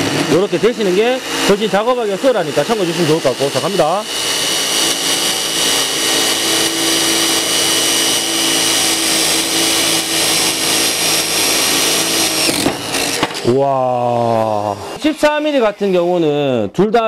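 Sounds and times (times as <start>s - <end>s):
gritty grinding: 0.0s - 16.5s
power tool motor whine: 0.0s - 16.7s.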